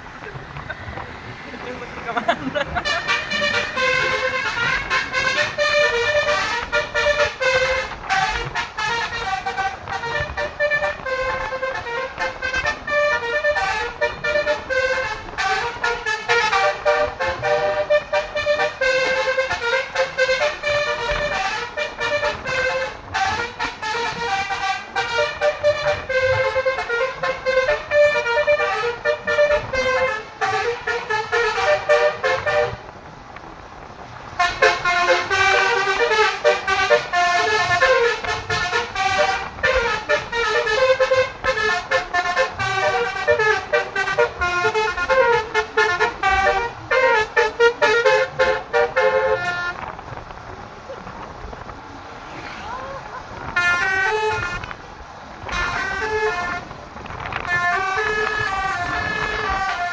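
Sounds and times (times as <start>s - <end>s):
multi-tone vehicle horn melody: 0.0s - 50.8s, 53.3s - 59.9s.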